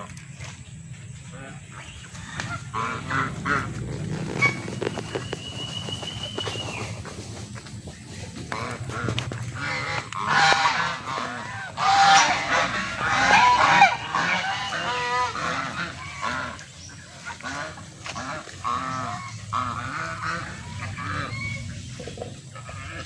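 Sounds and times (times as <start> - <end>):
geese honking: 0.6 - 23.0.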